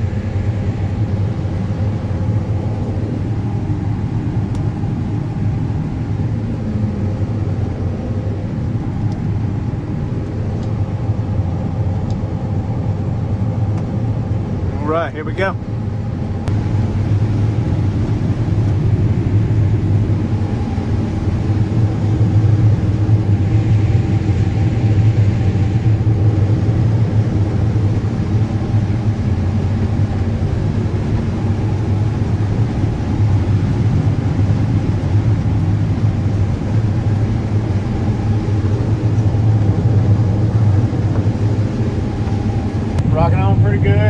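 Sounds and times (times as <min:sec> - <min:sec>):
combine harvester engine hum: 0:00.0 - 0:44.0.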